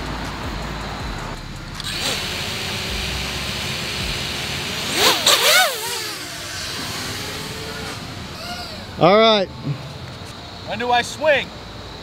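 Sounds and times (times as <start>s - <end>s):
drone motors whining and revving: 0.4s - 10.4s.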